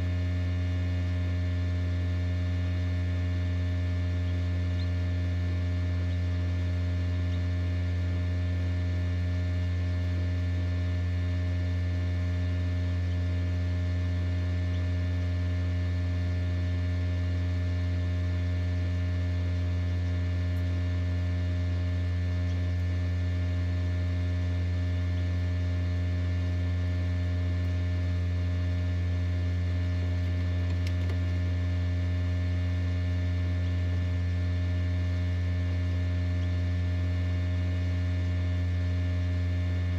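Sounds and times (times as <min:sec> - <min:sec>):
egg incubator electrical hum: 0:00.0 - 0:39.9.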